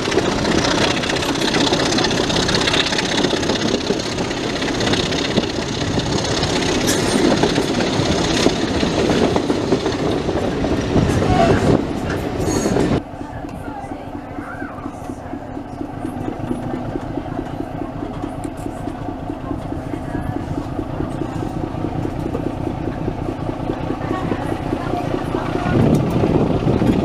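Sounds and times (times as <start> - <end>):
train rumble: 0.0 - 27.0
wheel clatter over rail joints: 0.0 - 27.0.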